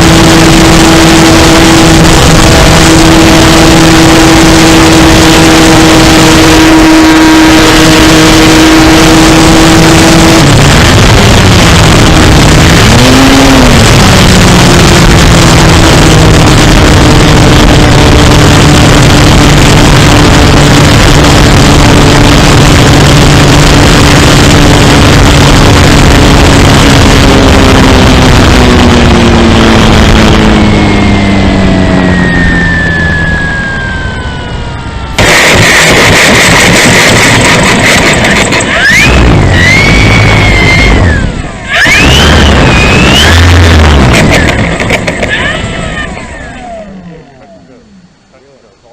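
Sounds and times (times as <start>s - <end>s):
rushing air noise: 0.0s - 47.4s
model plane motor droning: 0.0s - 48.2s.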